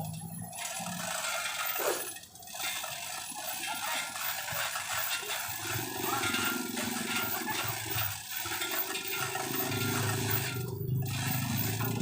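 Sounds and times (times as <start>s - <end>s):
road noise: 0.0s - 12.0s
vehicle engines running: 0.0s - 12.0s.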